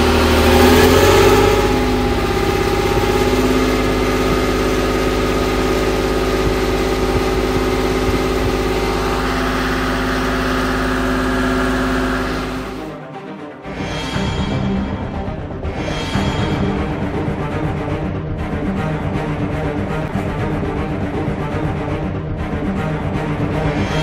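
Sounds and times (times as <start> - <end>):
tank diesel engine running: 0.0 - 12.9, 14.0 - 24.0.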